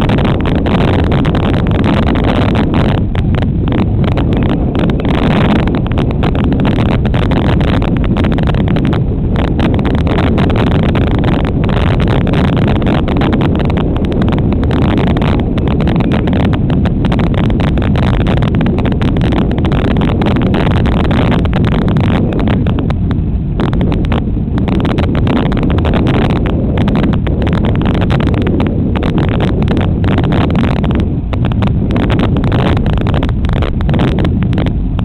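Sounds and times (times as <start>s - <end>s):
bike crackles and rattles: 0.0s - 35.0s
wind buffeting microphone: 0.0s - 35.0s.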